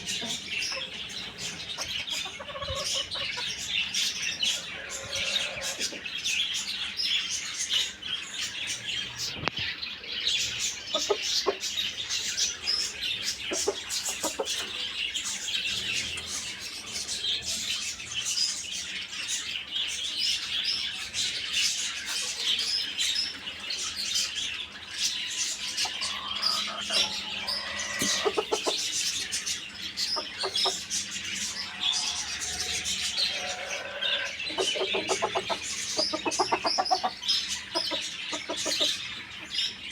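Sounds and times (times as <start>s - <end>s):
birds chirping: 0.0s - 39.9s
chickens clucking: 0.0s - 39.9s.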